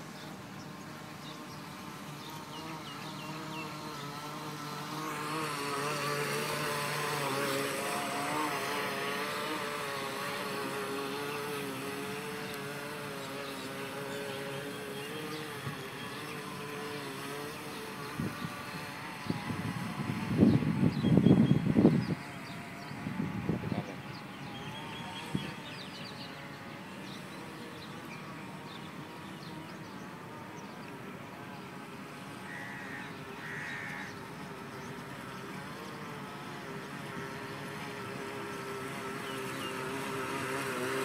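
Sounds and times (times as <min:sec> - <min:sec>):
rc boat electric motor whining: 0:00.0 - 0:41.0.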